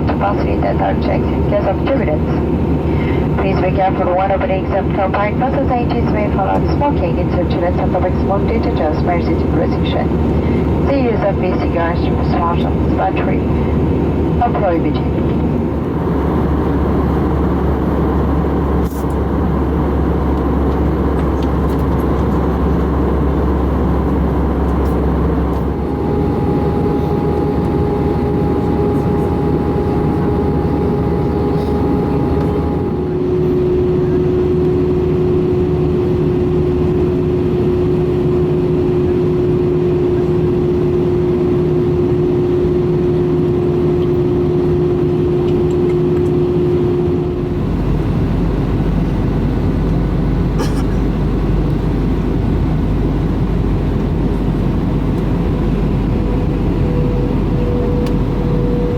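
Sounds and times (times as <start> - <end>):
engine whine: 0.0 - 58.9
jet engine cabin rumble: 0.0 - 58.9.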